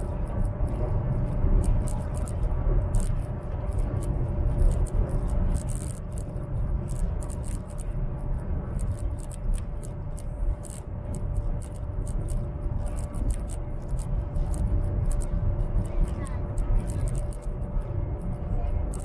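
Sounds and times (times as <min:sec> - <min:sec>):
faint steady hum: 0:00.0 - 0:19.0
small ticks and rattles: 0:00.0 - 0:19.0
train cabin low rumble: 0:00.0 - 0:19.0.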